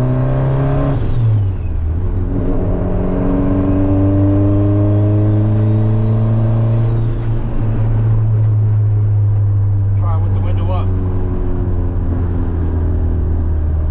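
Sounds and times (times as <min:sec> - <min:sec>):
car engine accelerating: 0:00.0 - 0:13.9.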